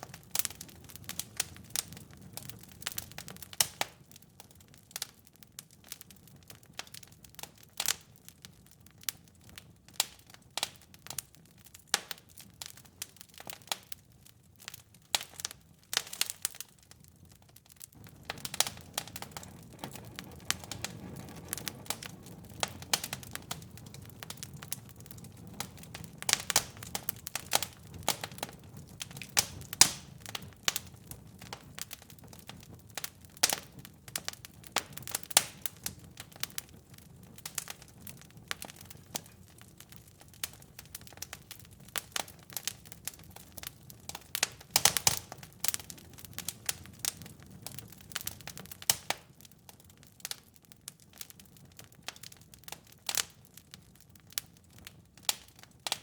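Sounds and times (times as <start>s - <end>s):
low steady fire burning: 0.0s - 56.0s
wood fire crackling and popping: 0.0s - 56.0s.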